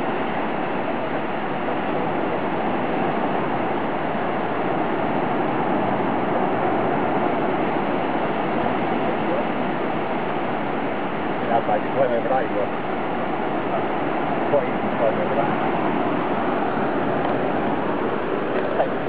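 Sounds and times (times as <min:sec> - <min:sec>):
surf breaking on beach: 0:00.0 - 0:19.0.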